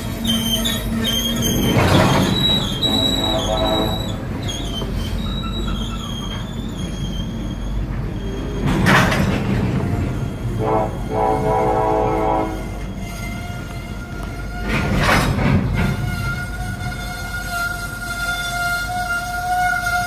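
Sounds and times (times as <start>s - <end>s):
freight train rumble: 0.0s - 20.0s
wheels squealing: 0.0s - 20.0s.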